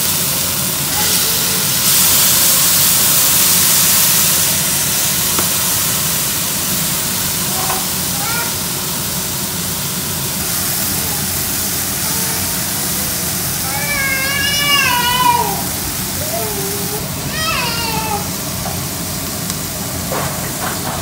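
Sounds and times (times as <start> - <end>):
water boiling and hissing: 0.0 - 21.0.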